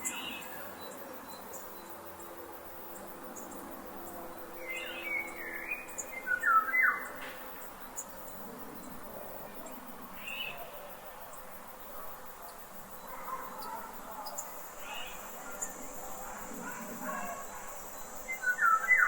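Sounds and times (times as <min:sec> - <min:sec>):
birds chirping: 0:02.9 - 0:19.0.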